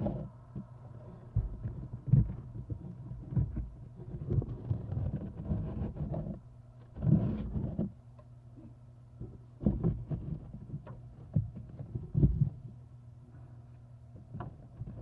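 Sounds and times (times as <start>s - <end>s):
knocks and scrapes on wooden box: 0.0s - 8.0s, 9.2s - 12.7s, 14.2s - 15.0s
low electrical hum: 0.0s - 15.0s.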